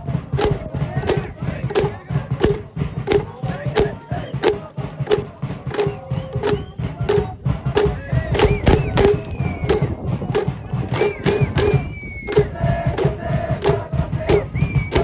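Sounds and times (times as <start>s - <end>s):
crowd shouting: 0.0s - 15.0s
percussion beats: 0.0s - 15.0s.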